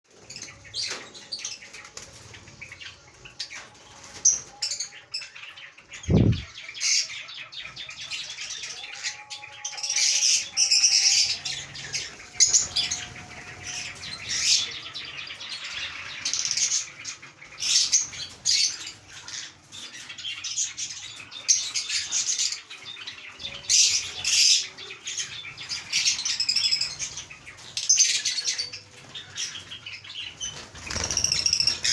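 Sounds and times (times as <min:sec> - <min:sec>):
parrots chirping and squawking: 0:00.2 - 0:31.9.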